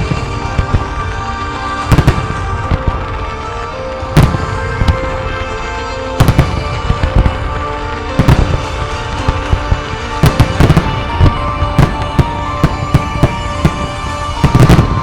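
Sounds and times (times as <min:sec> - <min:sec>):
music soundtrack: 0:00.0 - 0:15.0.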